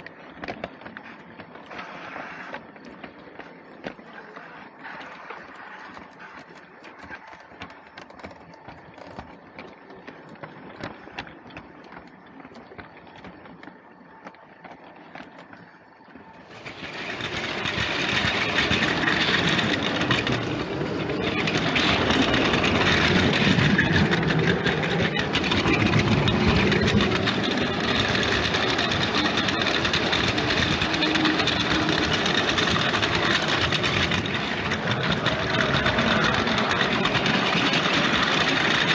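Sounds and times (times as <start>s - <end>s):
toy train rolling clatter: 0.0s - 13.8s, 16.3s - 38.9s.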